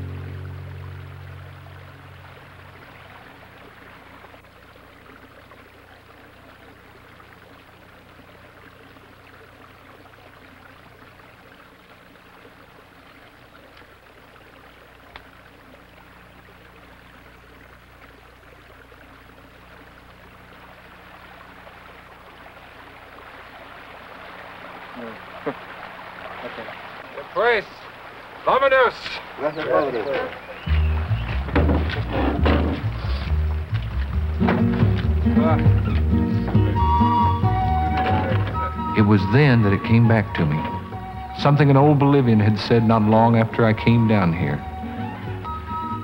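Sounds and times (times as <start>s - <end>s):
low constant hum: 0.0s - 46.0s.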